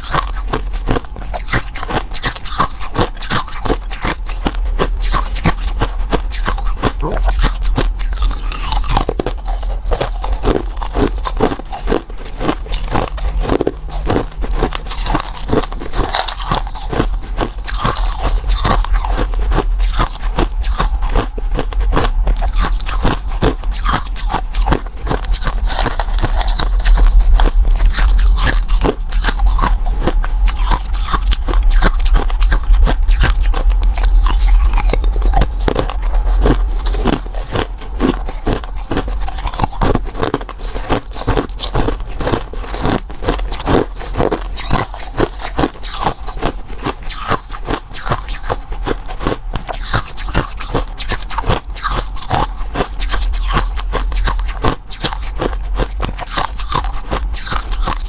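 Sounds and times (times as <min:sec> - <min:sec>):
chewing something crunchy: 0:00.0 - 0:58.0
steady low hum: 0:00.0 - 0:58.0.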